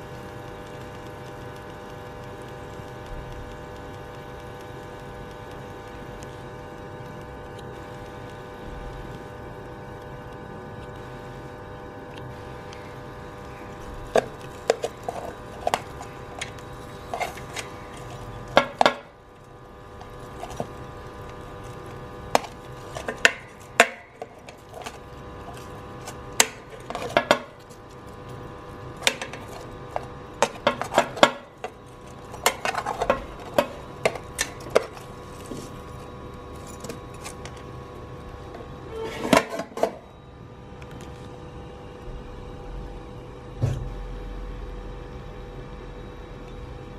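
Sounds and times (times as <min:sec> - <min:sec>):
steady hum: 0:00.0 - 0:46.9.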